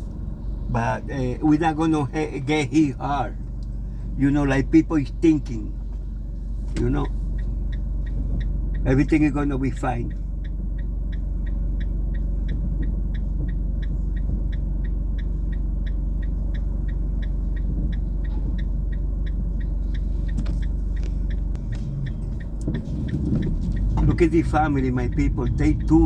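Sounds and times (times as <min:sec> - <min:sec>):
car engine and tyres rumble: 0:00.0 - 0:26.0
light regular ticking: 0:00.0 - 0:26.0.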